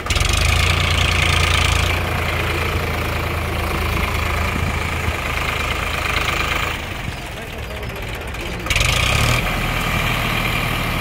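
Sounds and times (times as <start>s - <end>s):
front loader tipping soil: 0.0s - 11.0s
tractor diesel engine running: 0.0s - 11.0s.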